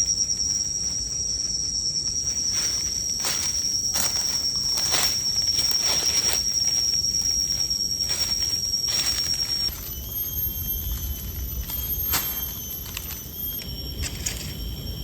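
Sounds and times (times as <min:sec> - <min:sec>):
fainter high trill: 0:00.0 - 0:15.0
high insect trill: 0:00.0 - 0:15.0.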